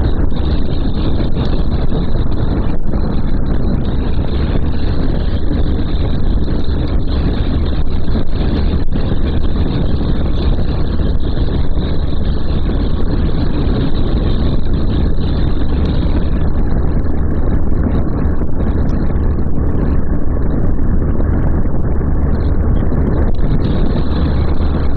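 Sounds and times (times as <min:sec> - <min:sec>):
motorcycle engine: 0:00.0 - 0:24.9
wind noise: 0:00.0 - 0:24.9.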